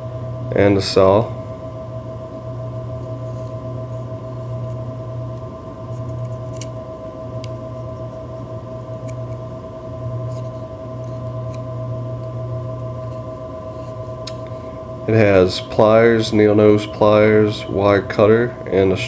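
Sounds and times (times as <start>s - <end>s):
low electrical hum: 0.0s - 19.0s
thin steady whine: 0.0s - 19.0s.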